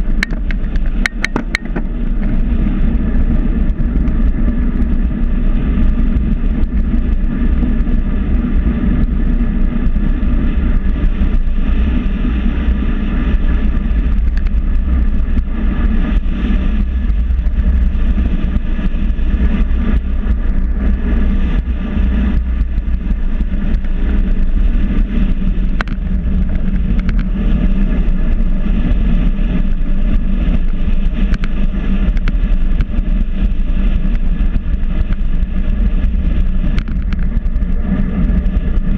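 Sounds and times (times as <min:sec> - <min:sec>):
constant low drone: 0:00.0 - 0:38.9
wind and road noise: 0:00.0 - 0:38.9.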